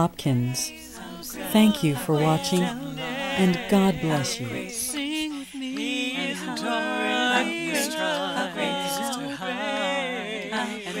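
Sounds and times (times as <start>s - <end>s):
person singing a worship song: 0.0s - 11.0s.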